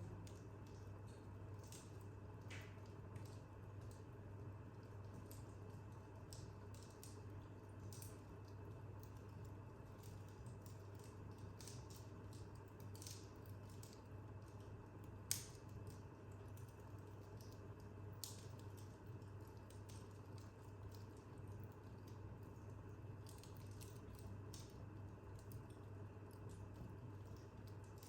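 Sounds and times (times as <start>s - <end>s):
fire popping: 0.0s - 28.0s
wood fire crackling: 0.0s - 28.0s.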